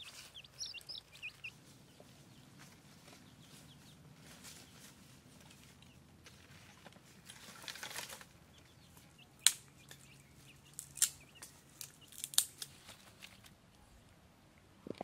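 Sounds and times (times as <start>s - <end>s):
rabbits biting leaves: 0.0s - 8.4s, 9.0s - 13.5s
leaves rustling: 0.0s - 13.6s.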